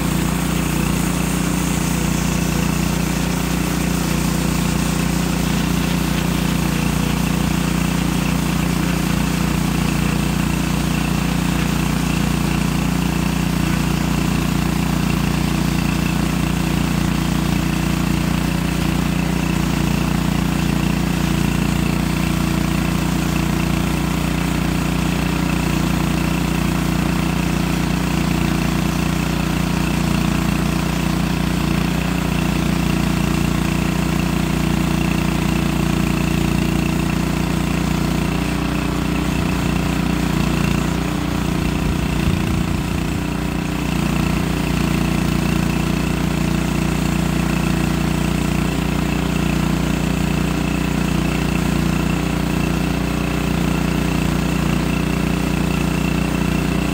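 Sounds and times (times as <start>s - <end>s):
small gas engine running: 0.0s - 56.9s.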